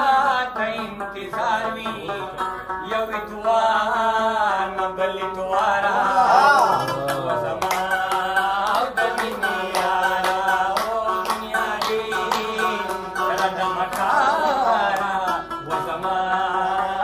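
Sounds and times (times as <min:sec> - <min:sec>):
plucked lute melody: 0:00.0 - 0:17.0.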